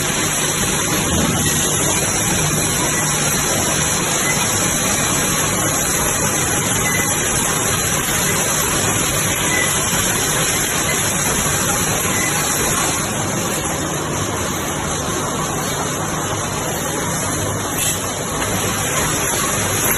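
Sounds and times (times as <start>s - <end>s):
loud machine noise with hiss: 0.0s - 19.9s.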